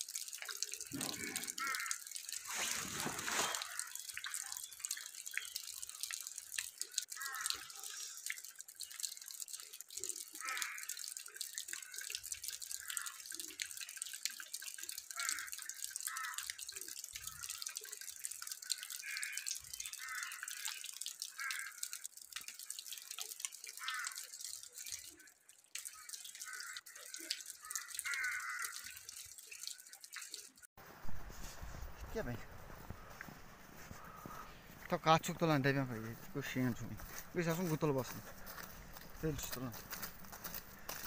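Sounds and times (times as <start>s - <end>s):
wet snow pattering and dripping: 0.0s - 41.0s.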